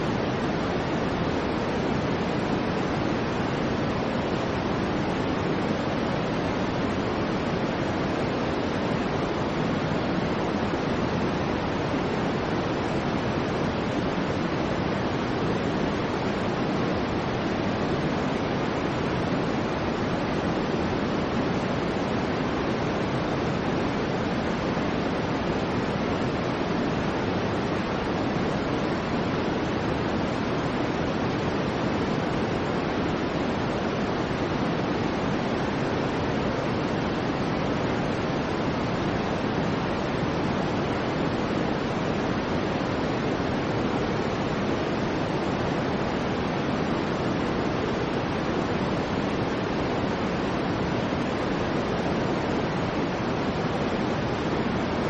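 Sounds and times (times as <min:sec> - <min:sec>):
rumbly white noise hiss: 0:00.0 - 0:55.0.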